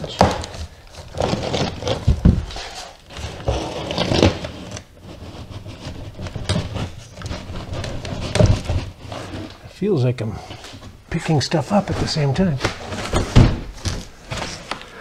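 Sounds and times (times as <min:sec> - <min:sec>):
cardboard scraping and rubbing: 0:00.0 - 0:09.7, 0:10.6 - 0:14.8.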